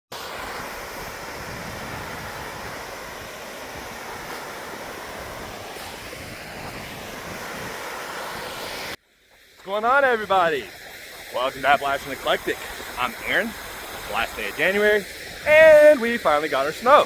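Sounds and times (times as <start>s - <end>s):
steady rushing noise: 0.1s - 9.0s, 10.0s - 17.0s.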